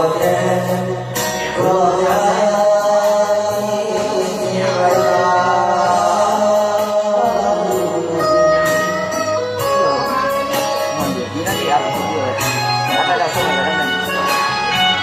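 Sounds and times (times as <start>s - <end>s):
mouth organ playing chords: 0.0s - 15.0s.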